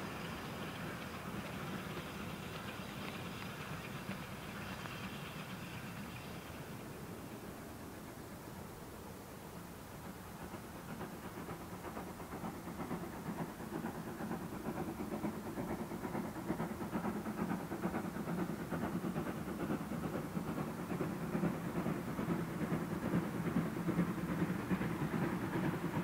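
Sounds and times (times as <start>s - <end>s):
train running rhythmically: 0.0s - 26.0s.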